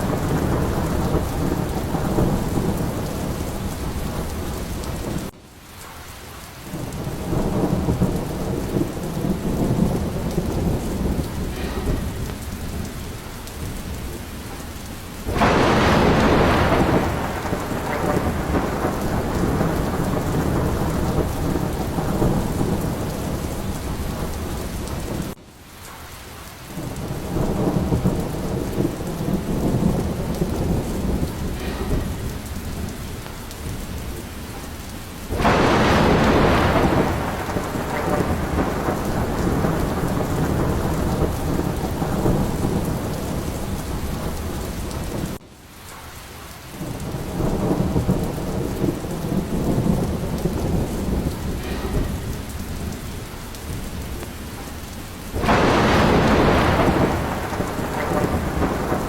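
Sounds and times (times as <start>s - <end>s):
rolling thunder: 0.0s - 5.4s, 6.6s - 25.4s, 26.7s - 45.4s, 46.7s - 59.0s
sharp thunderclap: 0.0s - 5.4s, 6.7s - 25.4s, 26.8s - 45.4s, 46.8s - 59.0s
heavy rain: 0.0s - 59.0s.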